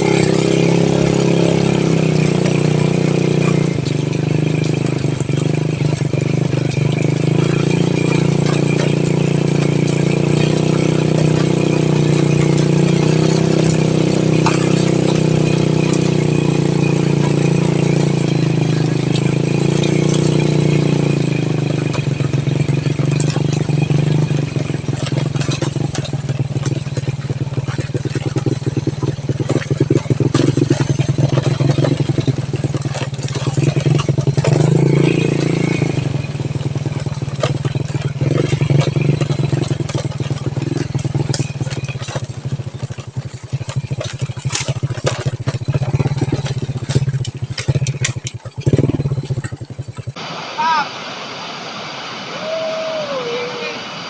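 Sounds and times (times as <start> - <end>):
fast rattling clatter: 0.0 - 50.2
vehicle engine running: 0.0 - 54.0.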